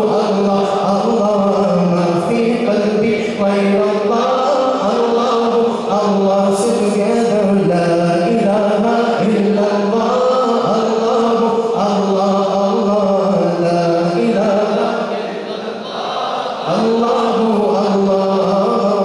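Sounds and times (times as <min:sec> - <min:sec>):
man singing unaccompanied: 0:00.0 - 0:15.6, 0:16.6 - 0:19.0.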